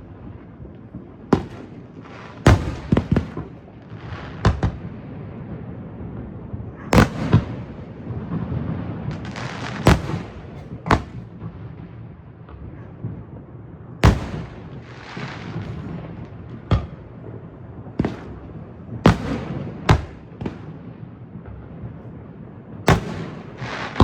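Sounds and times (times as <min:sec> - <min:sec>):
fireworks booming: 0:00.0 - 0:24.0.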